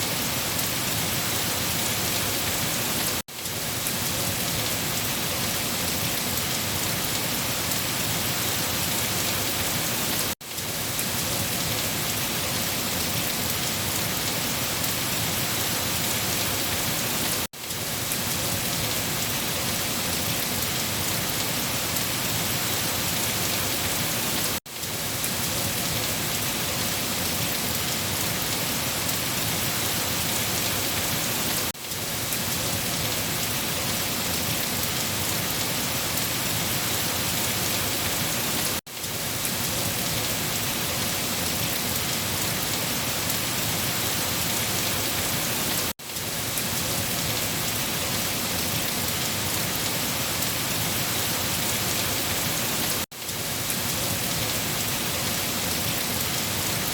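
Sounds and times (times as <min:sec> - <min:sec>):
dense rain falling: 0:00.0 - 0:56.9.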